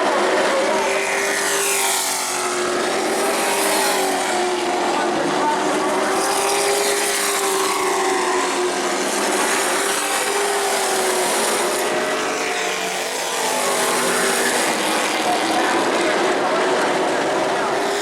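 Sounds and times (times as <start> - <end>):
race truck engines passing: 0.0 - 18.0.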